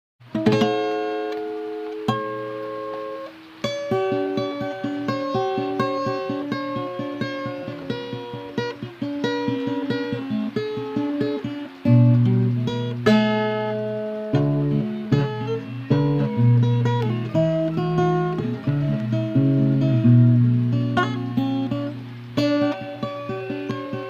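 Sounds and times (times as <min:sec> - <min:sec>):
acoustic guitar picked notes: 0:00.2 - 0:24.0
strummed guitar chord: 0:00.3 - 0:24.0.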